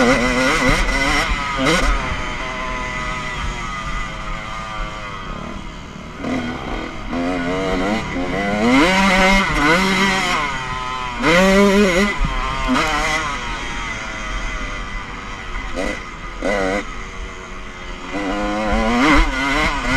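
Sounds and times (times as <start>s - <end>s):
motocross bike engine revving: 0.0s - 19.9s.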